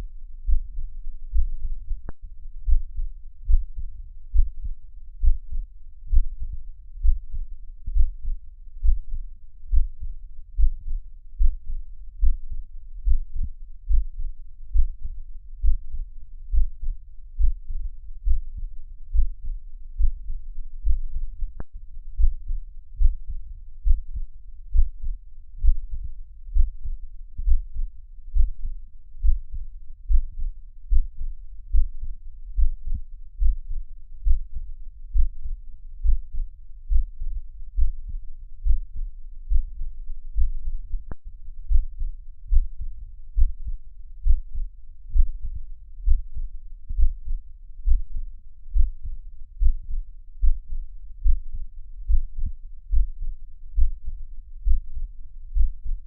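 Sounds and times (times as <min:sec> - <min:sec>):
heartbeat thumps: 0:00.4 - 0:56.0.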